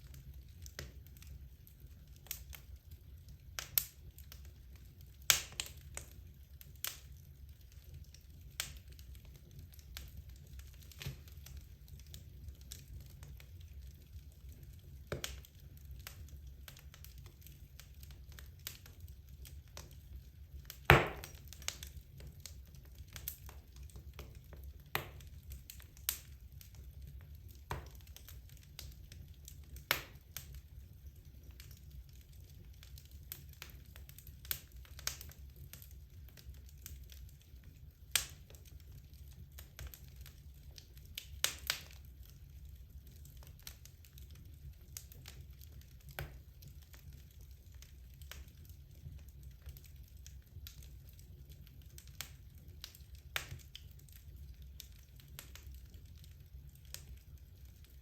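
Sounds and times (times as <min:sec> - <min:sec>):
fireplace logs crackling: 0:00.0 - 0:58.0.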